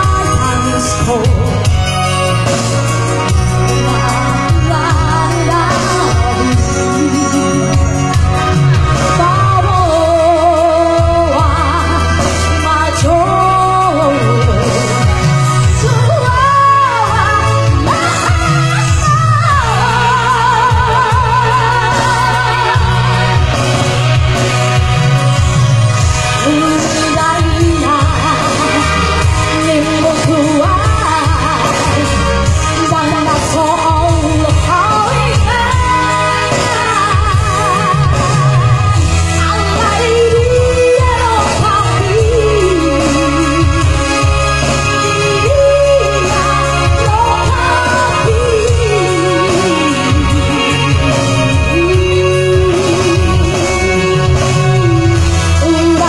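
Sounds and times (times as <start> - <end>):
band accompaniment: 0.0 - 56.0
person singing with vibrato: 0.0 - 56.0
rhythmic bass line: 0.0 - 56.0.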